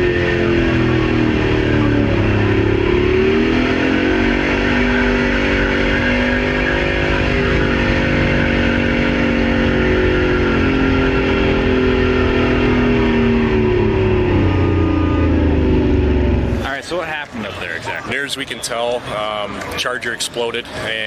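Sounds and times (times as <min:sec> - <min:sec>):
diesel engine loud drone: 0:00.0 - 0:21.0.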